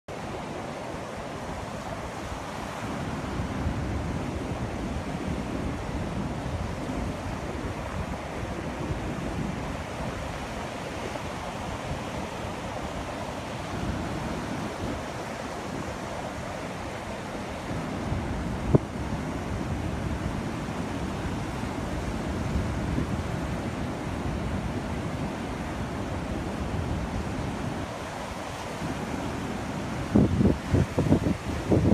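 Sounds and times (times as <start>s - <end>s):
ocean surf breaking: 0.1s - 31.9s
wind rumbling on microphone: 0.1s - 31.9s.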